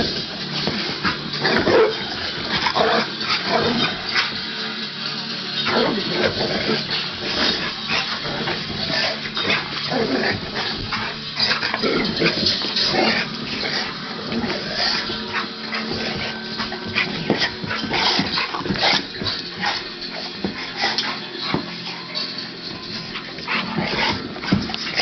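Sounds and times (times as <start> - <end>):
dogs growling and barking: 0.0 - 25.0.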